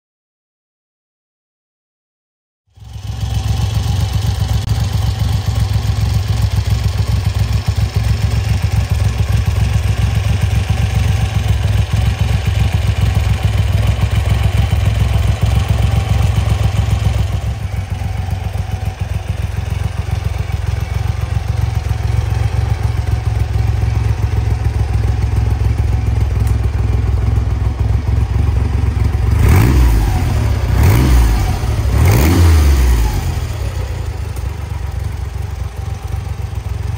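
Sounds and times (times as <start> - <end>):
motorcycle engine idling and revving: 2.7 - 36.9.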